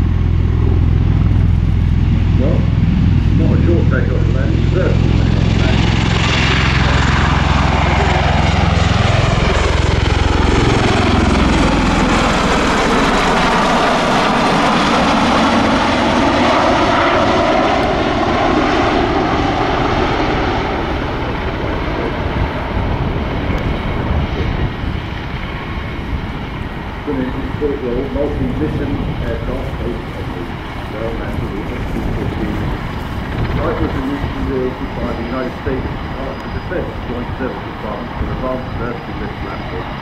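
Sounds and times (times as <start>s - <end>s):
aircraft rotors beating overhead: 0.0s - 40.0s
roar of rotors and engines: 0.0s - 40.0s.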